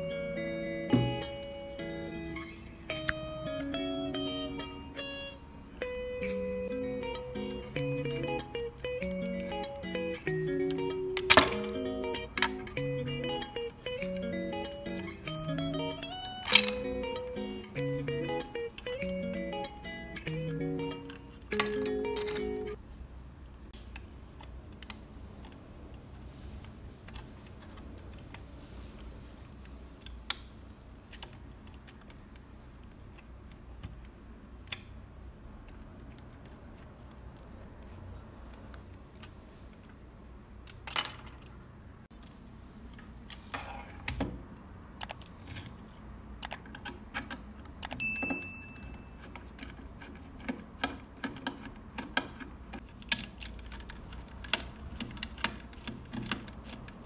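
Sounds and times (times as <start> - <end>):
screwdriver and small parts clicking: 2.4 - 3.8, 6.1 - 22.8, 23.8 - 28.5, 29.4 - 37.5, 38.5 - 42.3, 43.3 - 57.0.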